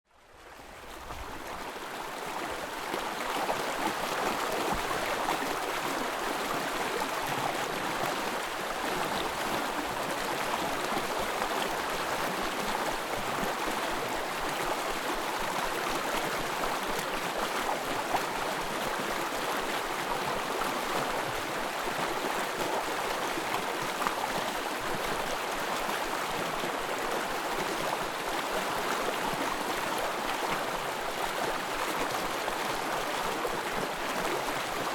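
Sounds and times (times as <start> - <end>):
stream babbling: 0.4 - 34.9.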